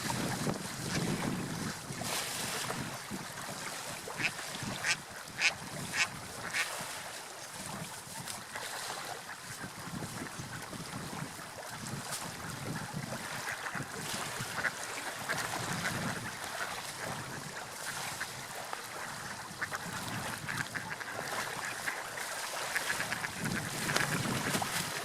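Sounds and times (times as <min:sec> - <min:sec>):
water lapping and sloshing: 0:00.0 - 0:25.0
water splashes: 0:00.0 - 0:25.0.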